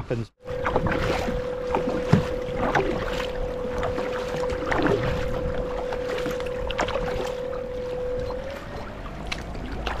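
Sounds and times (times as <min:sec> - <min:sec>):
steady hum: 0:00.4 - 0:10.0
water splashing against kayak: 0:00.4 - 0:10.0.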